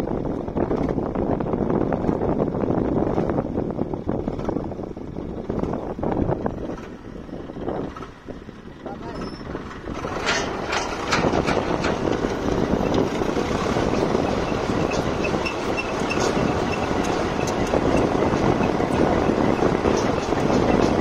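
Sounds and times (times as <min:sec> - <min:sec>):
earth auger boring soil: 0:00.0 - 0:21.0
tractor engine running under load: 0:00.0 - 0:21.0.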